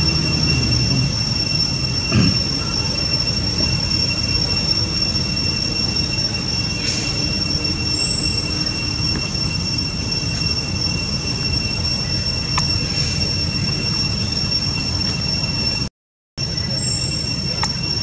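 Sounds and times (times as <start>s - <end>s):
high-pitched insect whine: 0.0s - 18.0s
low rumbling noise: 0.0s - 18.0s.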